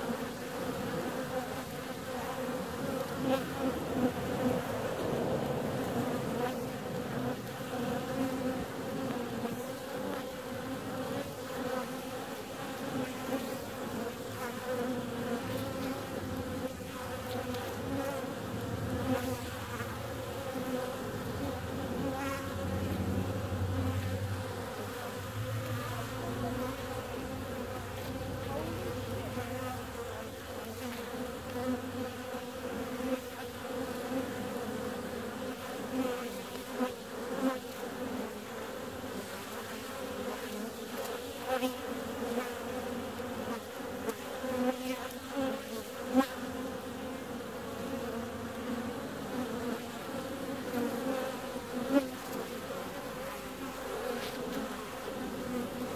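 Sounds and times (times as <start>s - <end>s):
bees buzzing: 0.0s - 55.9s.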